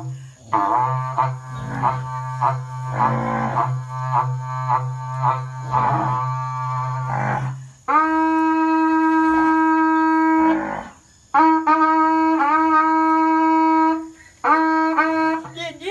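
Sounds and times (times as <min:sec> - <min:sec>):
cattle horn blasts: 0:00.0 - 0:10.8, 0:11.4 - 0:15.6.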